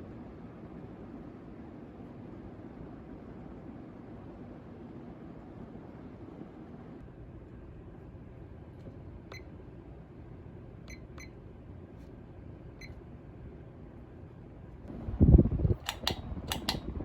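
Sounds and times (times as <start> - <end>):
ceiling fan humming: 0.0 - 17.0.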